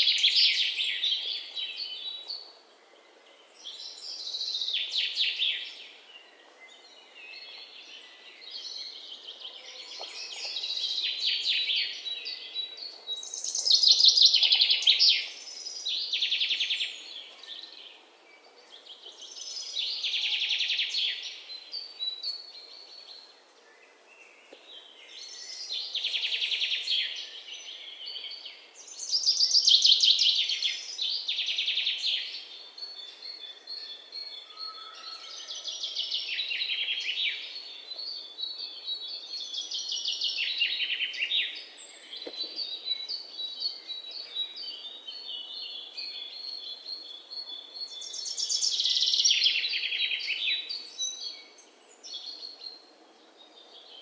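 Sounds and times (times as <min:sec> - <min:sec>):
songbirds trilled chirping: 0:00.0 - 0:54.0.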